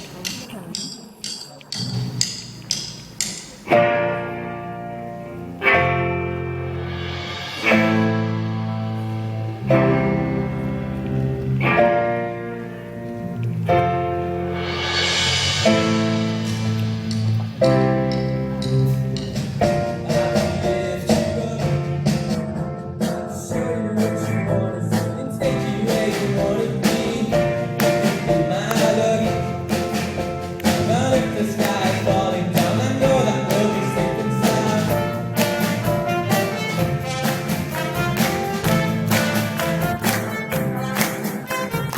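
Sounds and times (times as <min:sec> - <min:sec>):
instrumental pop music: 0:00.0 - 0:41.9.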